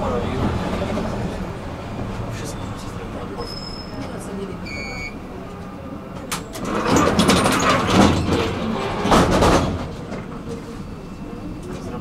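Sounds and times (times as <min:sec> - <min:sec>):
tram doors closing: 0:00.0 - 0:12.0.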